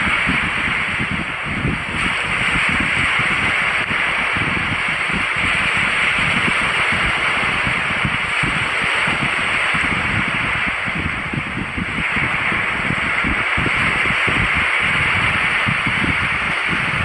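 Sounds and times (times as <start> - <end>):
low buffeting rumble: 0.0 - 17.0
surf: 0.0 - 17.0.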